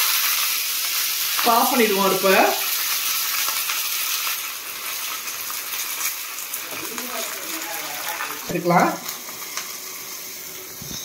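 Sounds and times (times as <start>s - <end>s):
leaves sizzling in hot oil: 0.0s - 11.0s.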